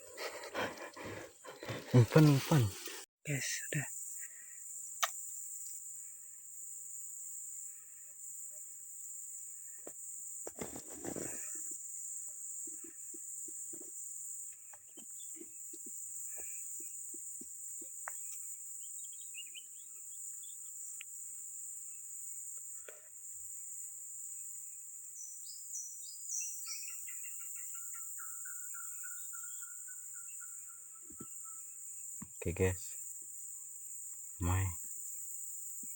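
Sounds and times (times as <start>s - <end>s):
high-pitched insect chorus: 0.0s - 35.9s.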